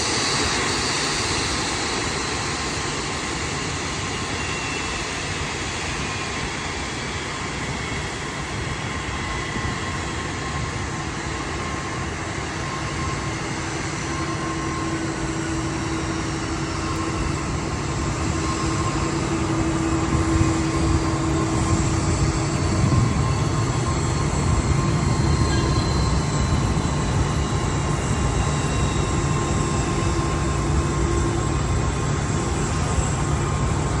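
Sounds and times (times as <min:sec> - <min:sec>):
jet engine roar and whine: 0:00.0 - 0:34.0.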